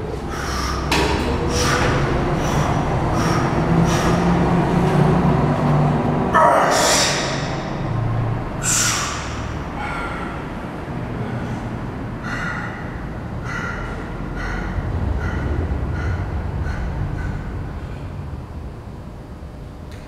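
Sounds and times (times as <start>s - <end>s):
man breathing forcefully: 0.0s - 5.5s, 6.3s - 18.9s
steady low hum: 0.0s - 20.0s.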